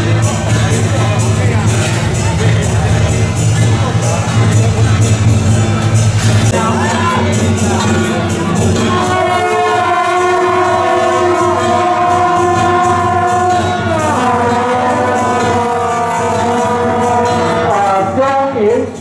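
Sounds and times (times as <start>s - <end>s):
brass band playing held chords: 0.0s - 19.0s.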